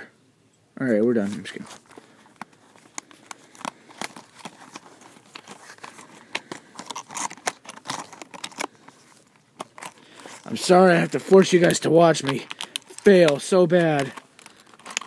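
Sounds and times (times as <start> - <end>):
packaging crinkling and scraping: 1.2 - 15.0.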